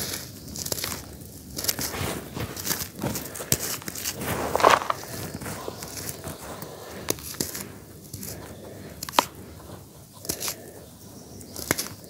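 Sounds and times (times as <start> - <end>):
hands crumbling charcoal grit: 0.0 - 10.6.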